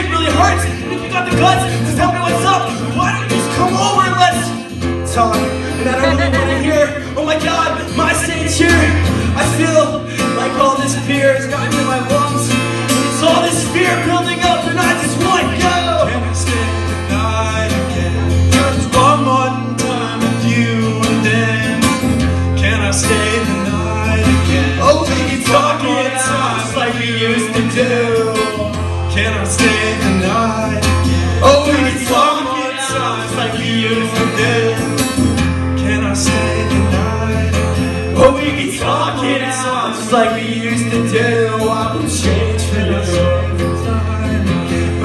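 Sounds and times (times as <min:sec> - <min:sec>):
acoustic band playing: 0:00.0 - 0:45.0
guitar: 0:00.0 - 0:45.0.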